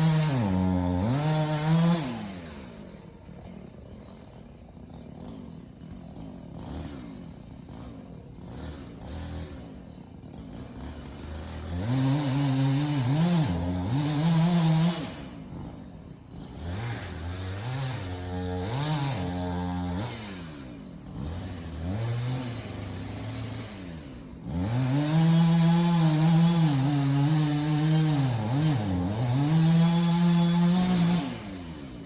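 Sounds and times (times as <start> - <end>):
chainsaw engine revving: 0.0 - 32.0.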